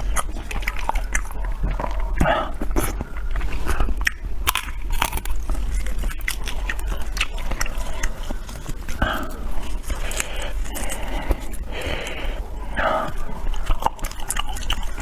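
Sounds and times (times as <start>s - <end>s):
wet mouth clicks and smacks: 0.0s - 12.3s
person chewing food: 0.0s - 15.0s.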